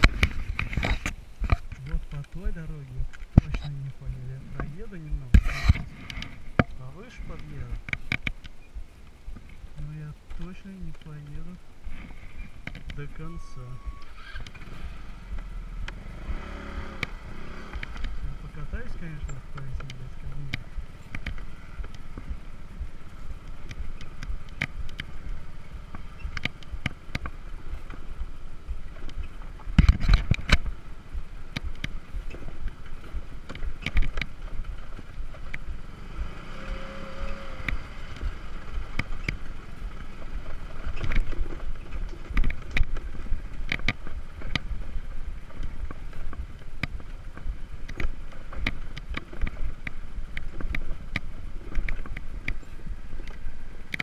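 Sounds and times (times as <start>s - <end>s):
motor scooter rumbling: 0.0s - 54.0s.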